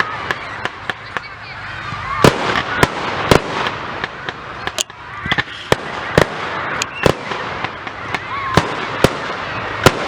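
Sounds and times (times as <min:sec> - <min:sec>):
fireworks bangs and pops: 0:00.0 - 0:10.0
steady background din: 0:00.0 - 0:10.0.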